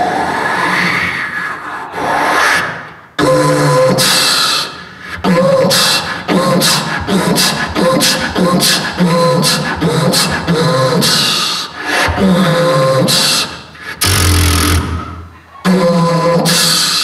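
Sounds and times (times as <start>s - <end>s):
man beatboxing into microphone: 0.1s - 15.0s, 15.6s - 17.0s.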